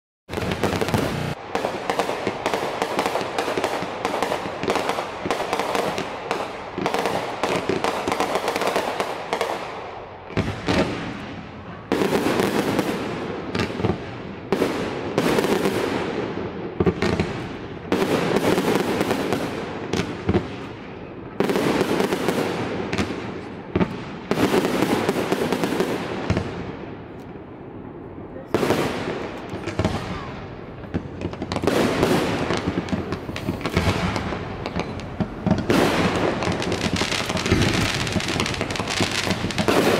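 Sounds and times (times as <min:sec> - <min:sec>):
fireworks bangs and crackling: 0:00.3 - 0:39.9.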